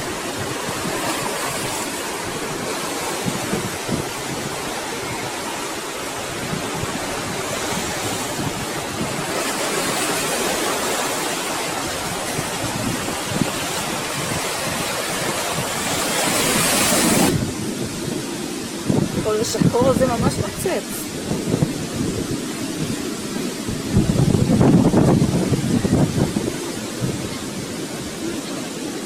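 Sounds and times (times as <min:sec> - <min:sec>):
ocean surf washing onto shore: 0:00.0 - 0:29.0
wind rumbling on microphone: 0:00.0 - 0:29.0.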